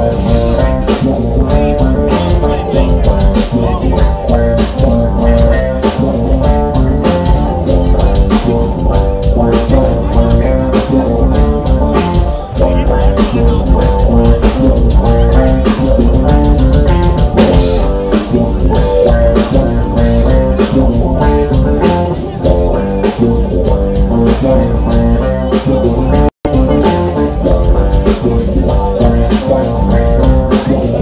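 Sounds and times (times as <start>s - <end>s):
drum kit: 0.0s - 31.0s
electric bass: 0.0s - 31.0s
keyboard: 0.0s - 31.0s.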